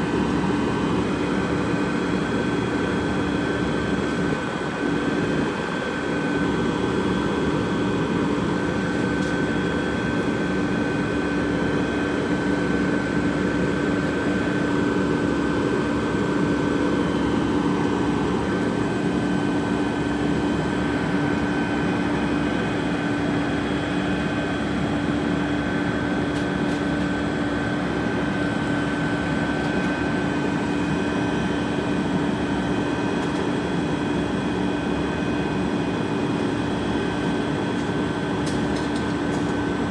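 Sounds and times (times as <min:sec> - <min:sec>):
garbage truck whine: 0:00.0 - 0:39.9.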